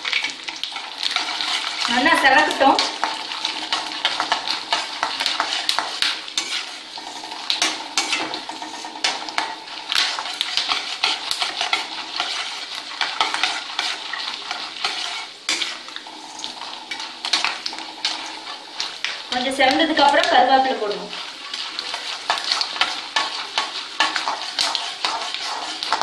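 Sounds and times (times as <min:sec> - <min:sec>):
metal ladle scraping pan: 0:00.0 - 0:20.2, 0:21.1 - 0:26.0
food sizzling in oil: 0:00.0 - 0:26.0.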